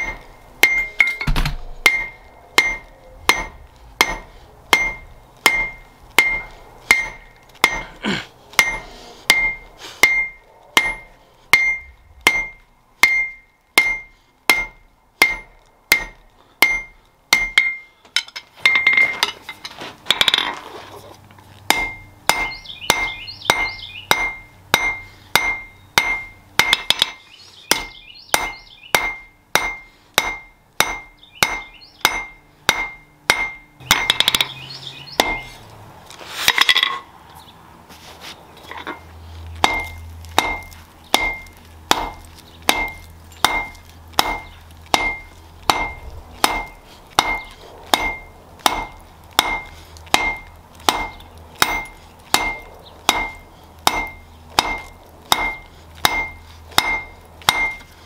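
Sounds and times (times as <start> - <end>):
hammer on steel anvil: 0.0 - 8.0, 8.6 - 20.4, 21.7 - 34.6, 35.2 - 35.5, 39.6 - 57.9
low steady hum: 0.0 - 58.0.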